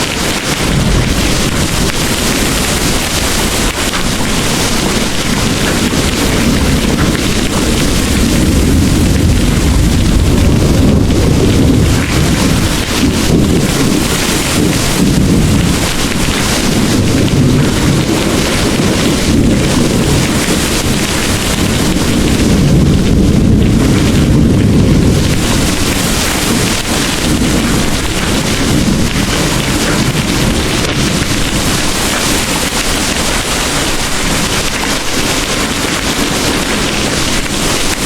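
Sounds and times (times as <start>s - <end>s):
heavy rain pouring: 0.0s - 38.0s
thunder rumbling: 0.0s - 38.0s.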